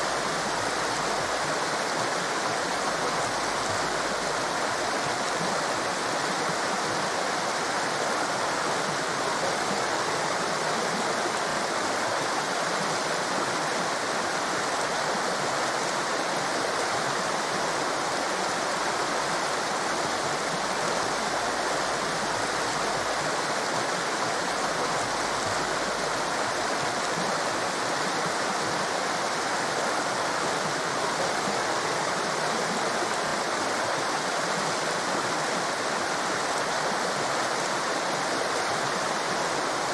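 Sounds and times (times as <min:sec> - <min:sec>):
white water rushing: 0:00.0 - 0:39.9.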